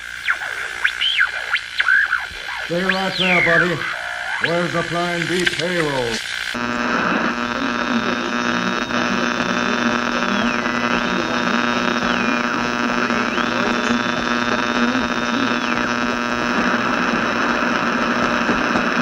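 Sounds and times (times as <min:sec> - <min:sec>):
mains hum and hiss: 0:00.0 - 0:19.0.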